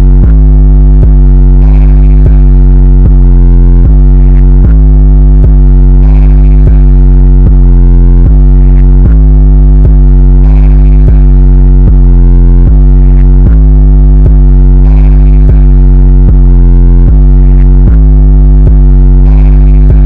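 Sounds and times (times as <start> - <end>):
distorted electronic music: 0.0 - 20.0.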